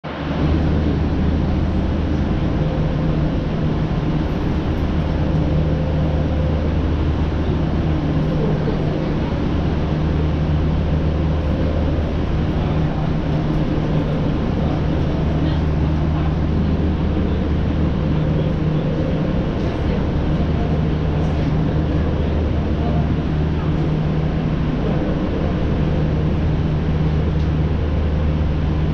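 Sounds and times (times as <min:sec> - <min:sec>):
low machinery hum: 0:00.0 - 0:28.9.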